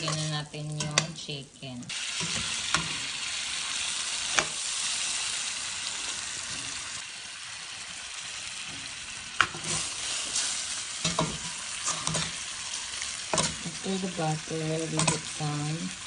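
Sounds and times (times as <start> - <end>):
chicken sizzling in butter: 0.0 - 16.0.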